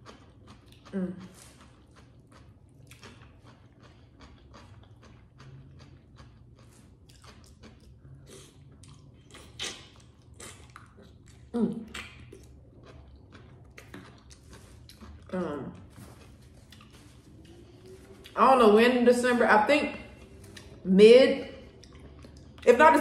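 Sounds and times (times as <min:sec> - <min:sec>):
chewing and wet mouth clicks: 0:00.0 - 0:15.3, 0:16.2 - 0:18.4, 0:20.2 - 0:20.8, 0:21.6 - 0:22.7.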